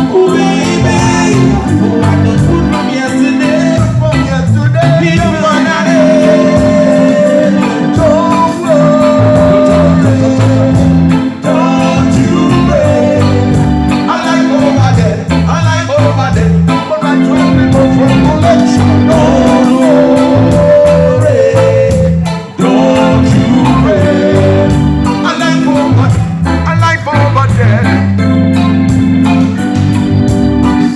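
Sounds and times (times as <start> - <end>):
live reggae band playing: 0.0 - 30.9.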